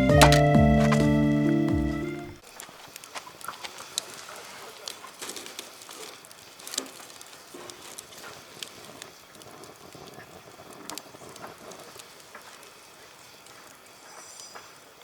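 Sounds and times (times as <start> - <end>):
soft steady hiss: 2.2 - 15.0.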